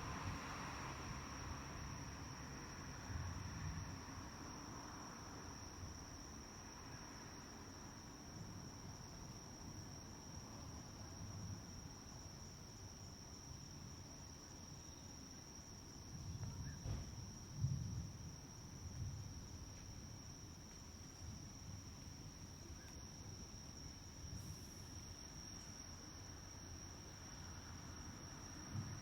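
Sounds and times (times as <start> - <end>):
crickets chirring: 0.0 - 29.0.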